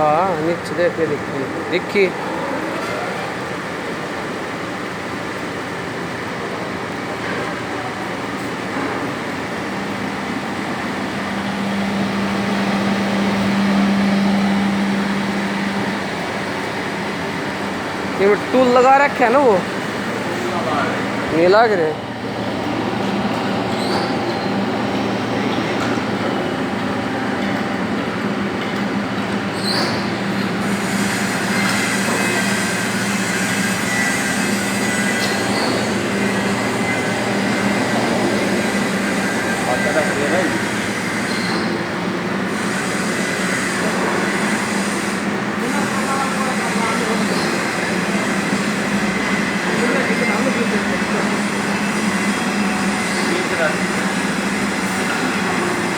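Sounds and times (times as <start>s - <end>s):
surface grinder running: 6.0s - 55.9s.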